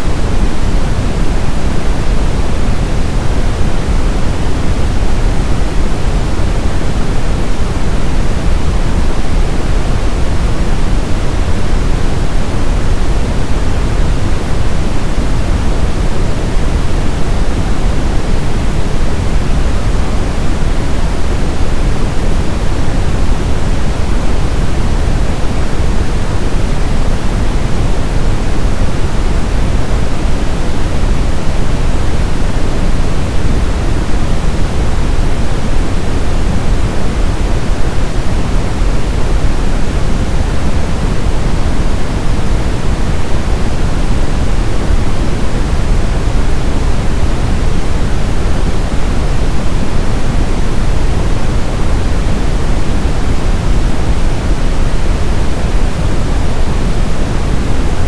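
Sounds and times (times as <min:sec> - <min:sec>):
steady deep brown noise hiss: 0:00.0 - 0:58.0.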